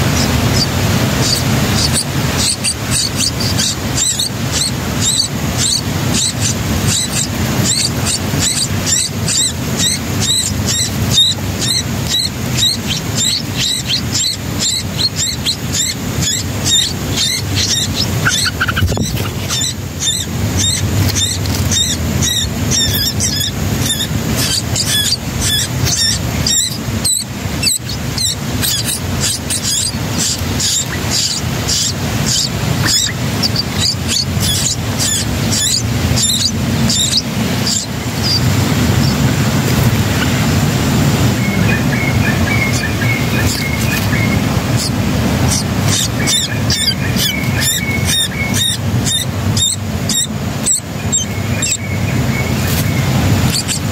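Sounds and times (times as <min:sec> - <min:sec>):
nestlings cheeping: 0:00.0 - 0:53.9.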